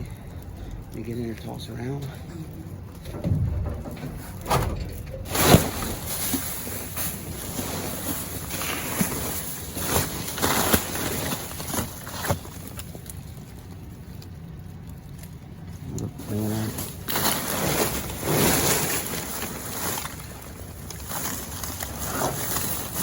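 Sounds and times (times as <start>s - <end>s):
rummaging trash in dumpster: 0.0s - 23.0s.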